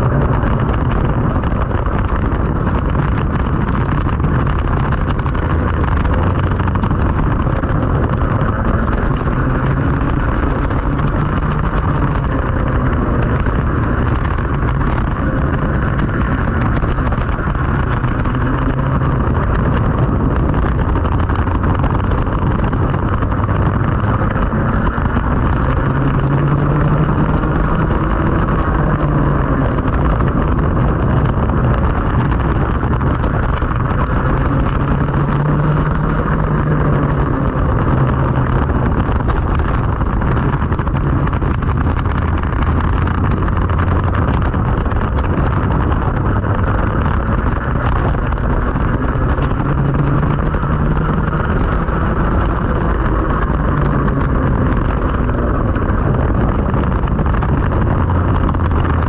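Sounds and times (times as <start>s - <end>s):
racing kart engine running hard: 0.0s - 59.0s
wind noise on microphone: 0.0s - 59.0s.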